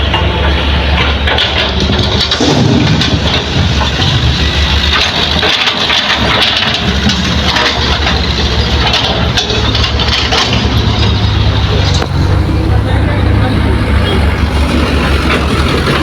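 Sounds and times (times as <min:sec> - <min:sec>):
diesel machinery engine drone: 0:00.0 - 0:16.0.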